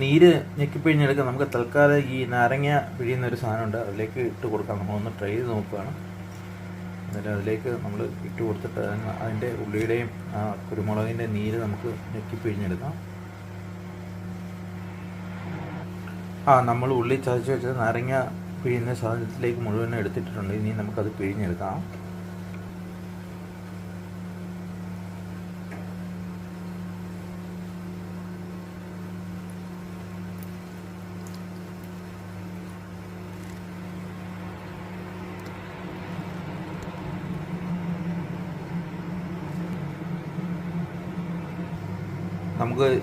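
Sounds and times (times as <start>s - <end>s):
low electrical hum: 0.0s - 43.0s.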